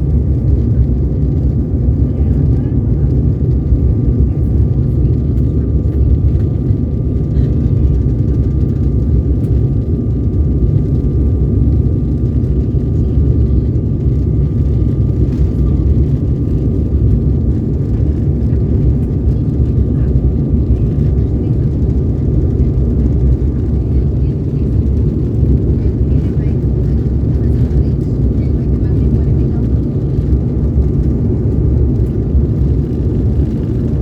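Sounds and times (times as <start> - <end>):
jet engine rumble in cabin: 0.0 - 34.0.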